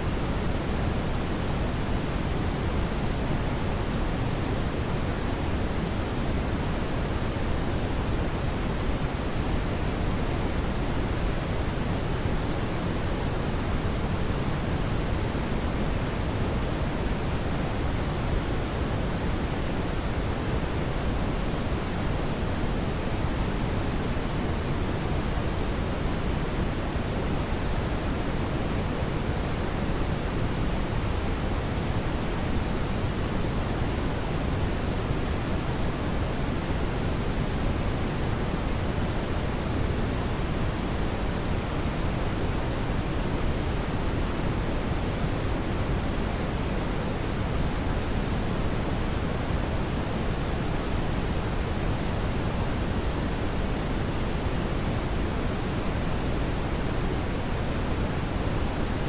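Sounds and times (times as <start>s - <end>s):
brown noise rushing hiss: 0.0s - 59.0s.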